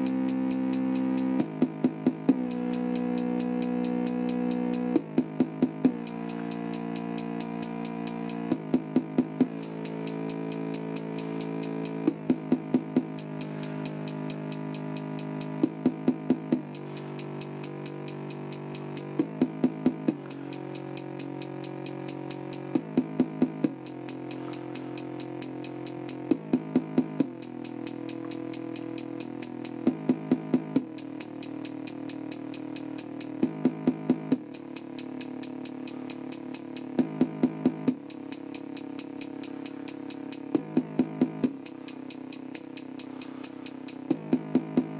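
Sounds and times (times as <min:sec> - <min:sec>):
dance music through tv speaker: 0:00.0 - 0:44.9.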